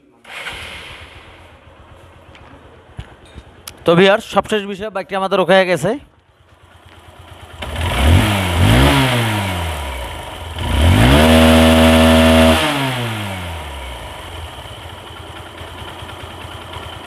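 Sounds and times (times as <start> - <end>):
motorcycle engine revving and idling: 0.0 - 4.4, 6.0 - 17.0.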